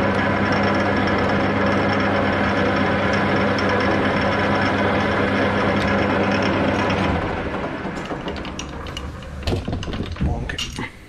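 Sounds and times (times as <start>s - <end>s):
metal lathe humming and spinning down: 0.0s - 10.0s.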